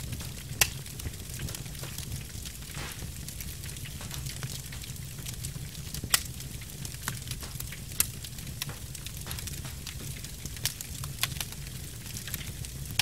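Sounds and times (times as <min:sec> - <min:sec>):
log fire crackling: 0:00.0 - 0:13.0.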